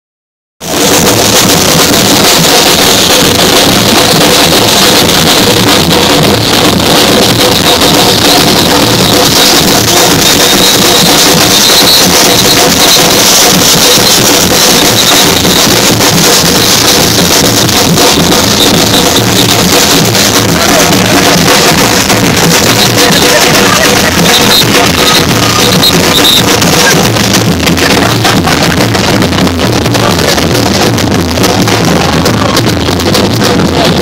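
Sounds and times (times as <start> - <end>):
parade music: 0.6 - 34.0
pounding drums: 0.6 - 34.0.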